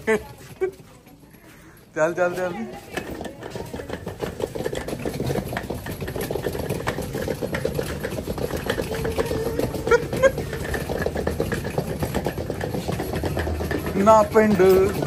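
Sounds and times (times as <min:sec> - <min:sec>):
suitcase wheels rattling on bricks: 0:00.0 - 0:15.0.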